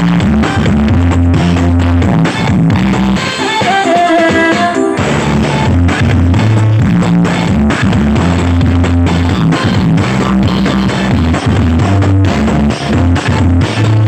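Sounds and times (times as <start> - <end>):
loud music with guitar and drums: 0.0 - 14.0.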